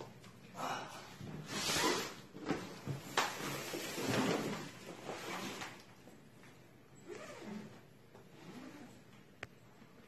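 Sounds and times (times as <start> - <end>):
rustling and movement noises: 0.0 - 10.0.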